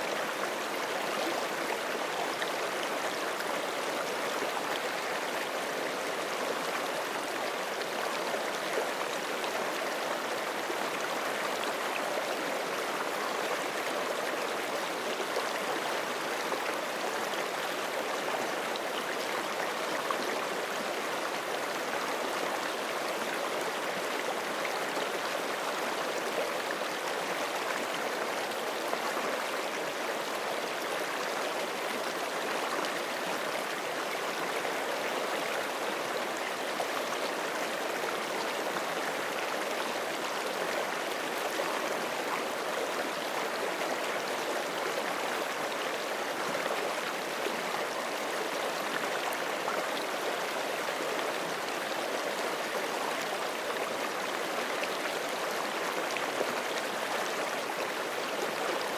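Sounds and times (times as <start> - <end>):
stream rushing over rocks: 0.0 - 58.9.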